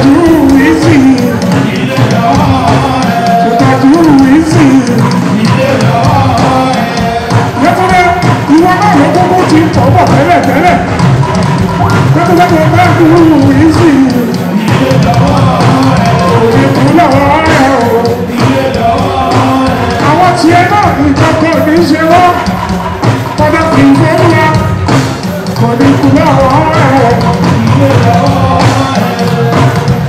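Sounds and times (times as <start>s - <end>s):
man singing into microphone: 0.0s - 11.0s, 11.7s - 22.7s, 23.3s - 30.0s
backing band playing: 0.0s - 30.0s.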